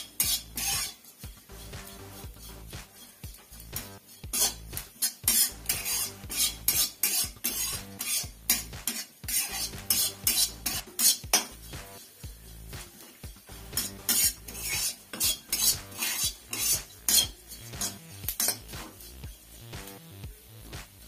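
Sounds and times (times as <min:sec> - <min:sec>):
metal spatula scraping a wok: 0:00.0 - 0:19.7.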